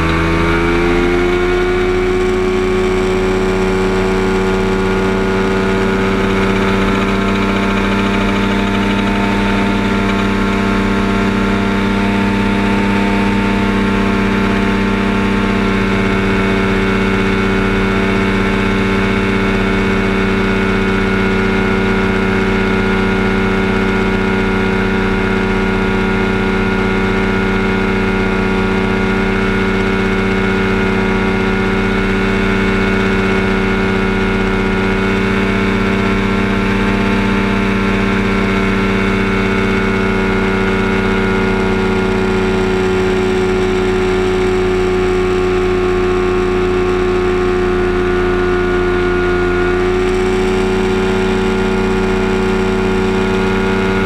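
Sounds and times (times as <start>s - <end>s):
light aircraft engine running: 0.0s - 54.0s.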